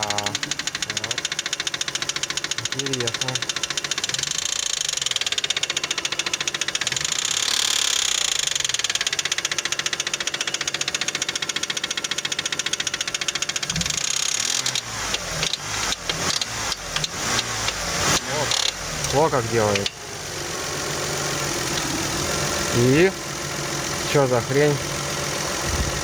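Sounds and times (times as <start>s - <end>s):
car engine knocking: 0.0s - 26.0s.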